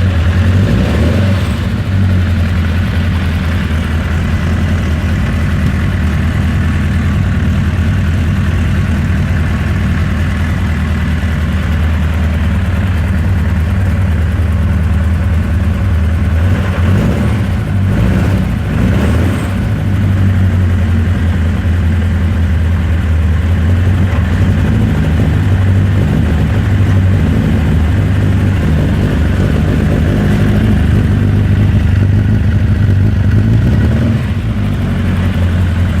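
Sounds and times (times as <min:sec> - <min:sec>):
engine idling roughly: 0:00.0 - 0:36.0.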